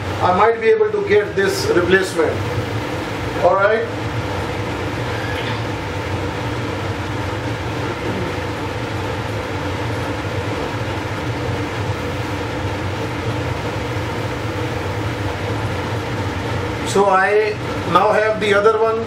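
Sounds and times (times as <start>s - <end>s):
clean bench blower drone: 0.0s - 19.0s.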